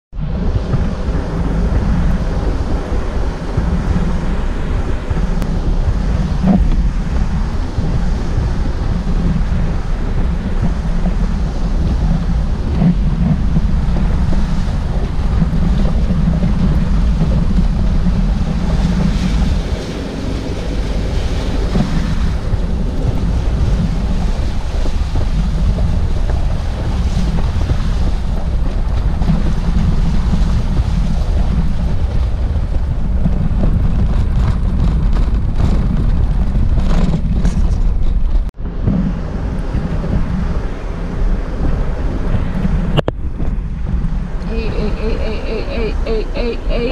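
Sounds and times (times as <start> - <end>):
vehicle engine and tyre noise: 0.1 - 46.9
wind buffeting microphone: 0.1 - 46.9.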